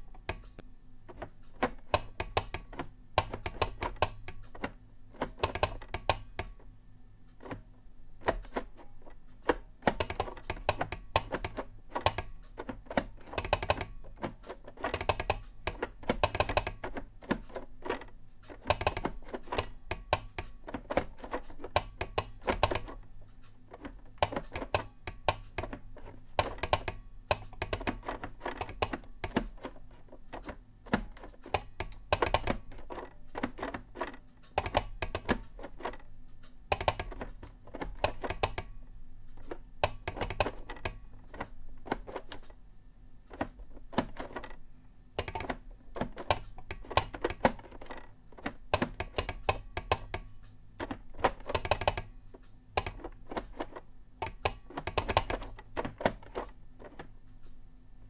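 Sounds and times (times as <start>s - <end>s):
telegraph key clicking: 0.2s - 6.6s, 9.5s - 23.0s, 23.7s - 36.0s, 36.7s - 38.7s, 39.3s - 42.5s, 45.2s - 52.2s, 52.8s - 57.1s.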